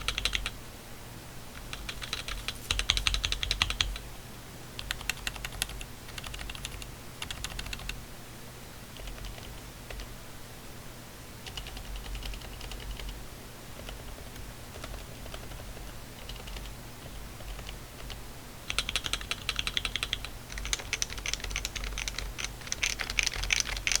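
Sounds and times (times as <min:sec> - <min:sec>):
typing on a keyboard: 0:00.0 - 0:00.6, 0:01.6 - 0:04.0, 0:04.8 - 0:08.0, 0:09.0 - 0:10.1, 0:11.4 - 0:13.2, 0:13.8 - 0:24.0.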